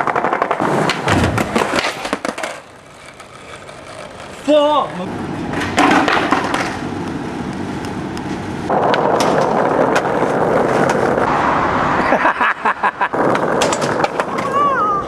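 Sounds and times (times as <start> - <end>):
skateboard clacking: 0.0 - 11.2, 13.1 - 15.0
skateboard wheels rolling on concrete: 0.0 - 15.0.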